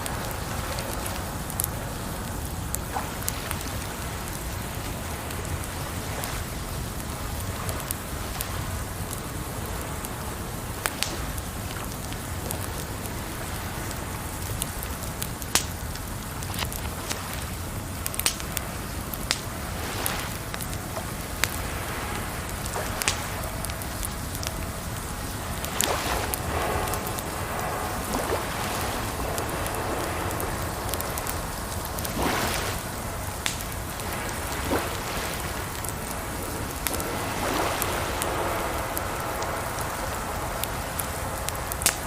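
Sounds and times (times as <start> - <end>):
campfire crackling and popping: 0.0 - 42.0
running water: 0.0 - 42.0.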